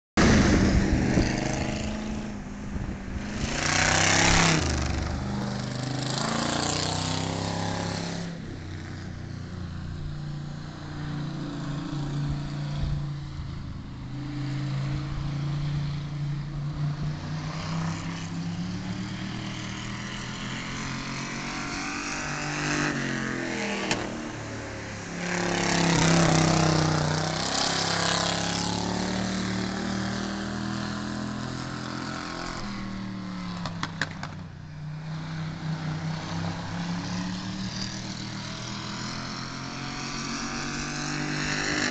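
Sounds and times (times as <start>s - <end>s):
stock car engine racing: 0.2s - 41.9s.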